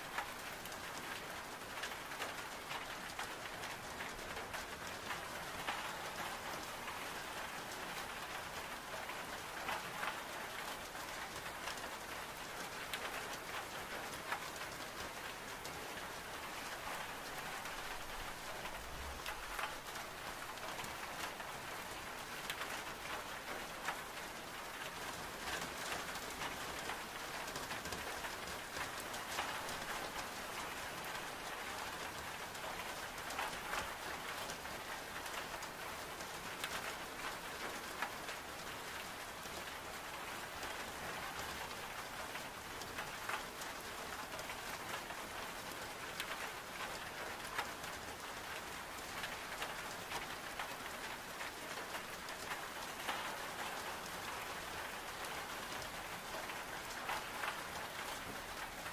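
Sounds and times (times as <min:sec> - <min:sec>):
rain on window glass: 0:00.0 - 0:58.9.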